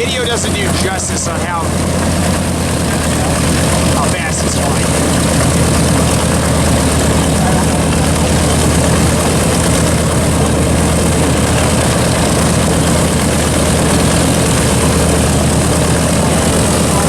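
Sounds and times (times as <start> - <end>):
piston engines idling: 0.0 - 17.0.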